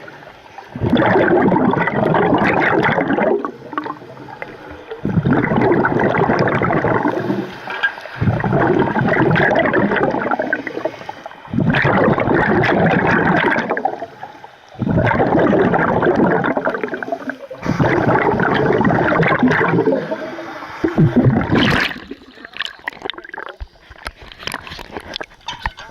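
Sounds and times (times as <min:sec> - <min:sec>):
underwater bubbles gurgling: 0:00.0 - 0:25.9.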